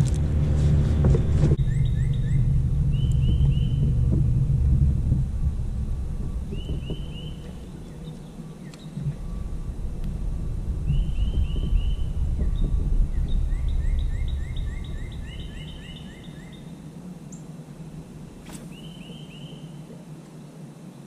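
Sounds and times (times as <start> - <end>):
low uneven rumble: 0.0 - 21.0
songbird singing: 0.0 - 21.0.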